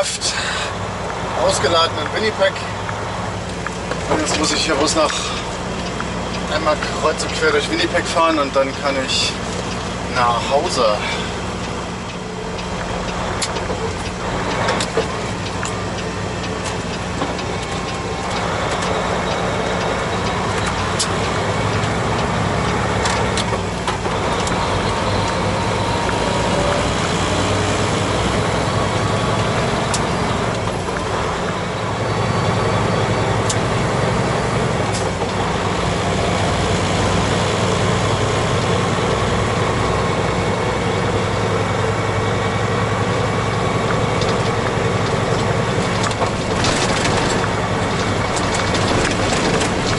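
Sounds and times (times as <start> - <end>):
diesel engine running: 0.0 - 49.9
road noise: 0.0 - 49.9.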